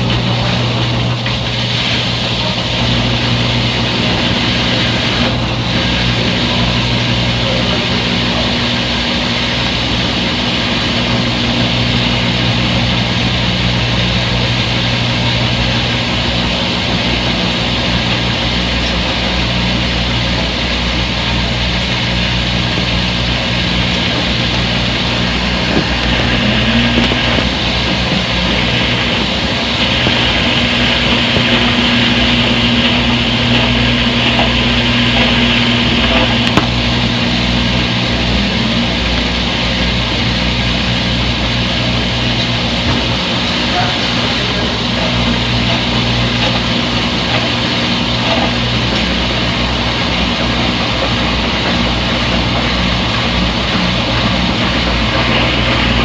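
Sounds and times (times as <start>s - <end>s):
drain pump whirring: 0.0s - 56.0s
washing machine spinning: 0.0s - 56.0s
water hissing: 0.0s - 56.0s.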